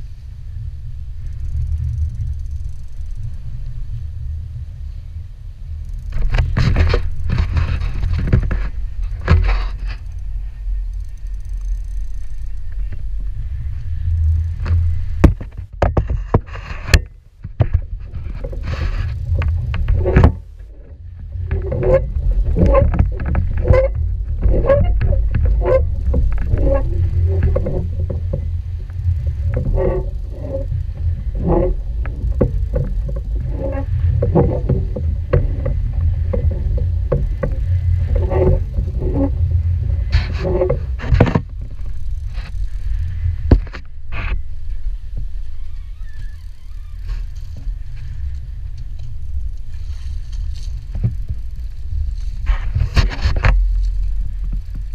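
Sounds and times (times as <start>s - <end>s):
boat engine rumble: 0.0s - 54.9s
wind on microphone: 0.0s - 54.9s.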